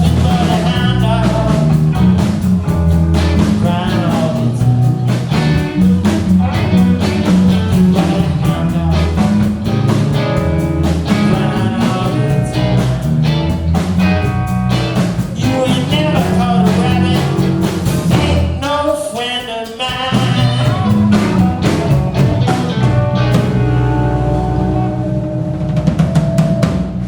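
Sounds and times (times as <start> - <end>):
live rock band playing: 0.0 - 27.0
steady drum beat: 0.0 - 27.0.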